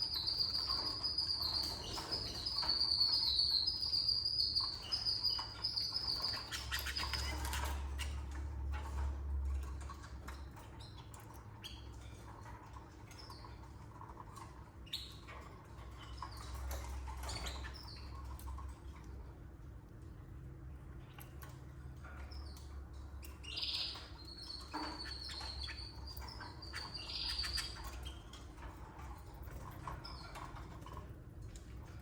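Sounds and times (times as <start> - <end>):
canaries chirping: 0.0 - 19.3, 20.8 - 32.0.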